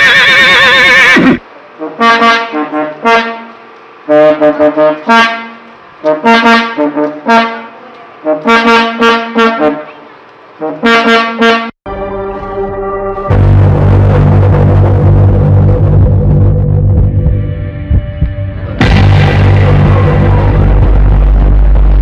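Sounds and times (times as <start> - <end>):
brass-like horn melody: 1.8 - 20.8.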